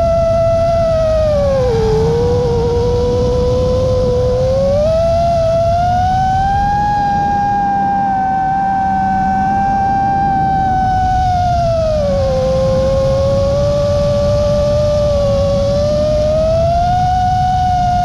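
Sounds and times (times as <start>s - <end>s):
drone motors whining: 0.0s - 18.0s
wind rush on microphone: 0.0s - 18.0s.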